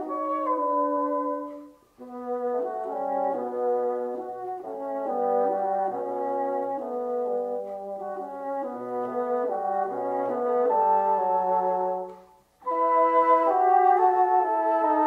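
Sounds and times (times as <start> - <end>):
classical wind chords: 0.0 - 15.0.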